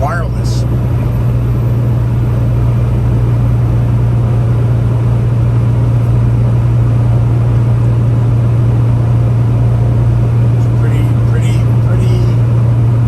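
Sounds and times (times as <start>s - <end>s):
road noise: 0.0s - 13.0s
truck engine hum: 0.0s - 13.0s.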